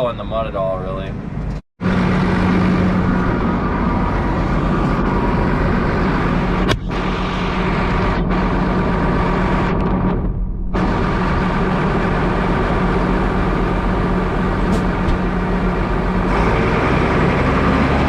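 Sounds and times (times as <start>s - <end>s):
tractor diesel engine running: 1.8s - 10.1s, 10.8s - 18.0s.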